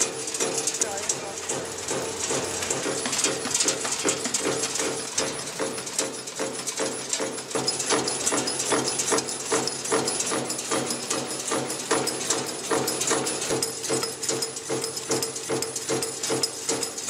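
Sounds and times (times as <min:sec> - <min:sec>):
constant mechanical hum: 0:00.0 - 0:17.0
stamping machine clatter: 0:00.0 - 0:17.0.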